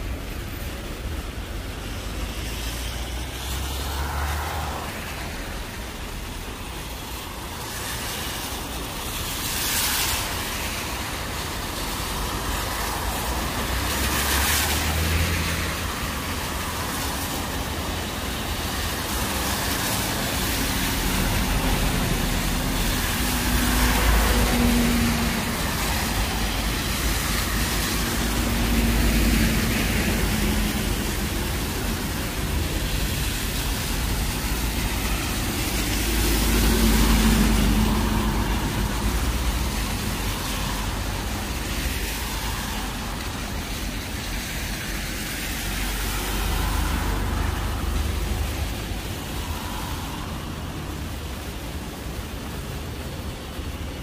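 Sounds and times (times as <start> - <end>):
passing vehicles hiss: 0.0 - 54.0.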